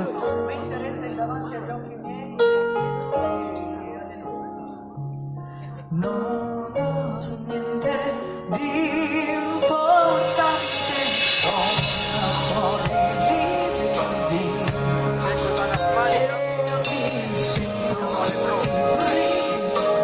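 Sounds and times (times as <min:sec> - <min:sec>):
live pop band playing: 0:00.0 - 0:05.0, 0:05.6 - 0:20.0.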